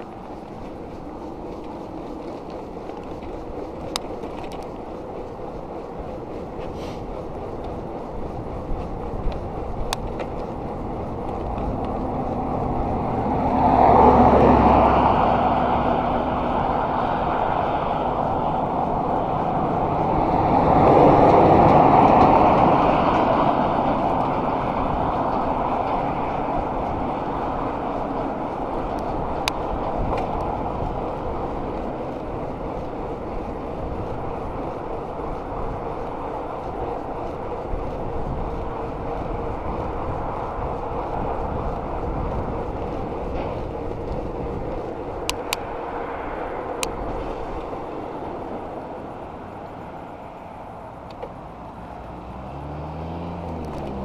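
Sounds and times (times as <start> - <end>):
bicycle tyres on asphalt: 0.0 - 54.0
motor vehicles passing: 0.0 - 54.0
wind rush: 0.0 - 54.0.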